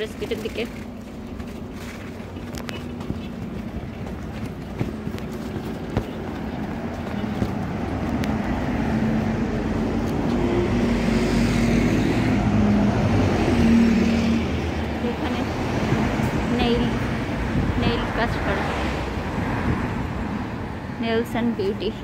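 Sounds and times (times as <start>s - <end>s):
bus engine passing by: 0.0s - 22.0s
street traffic noise: 0.0s - 22.0s.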